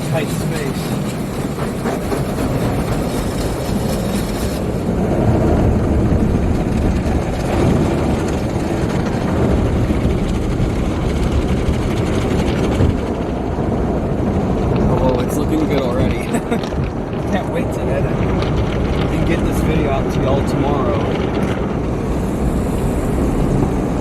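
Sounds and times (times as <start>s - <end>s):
car wash machinery noise: 0.0s - 24.0s.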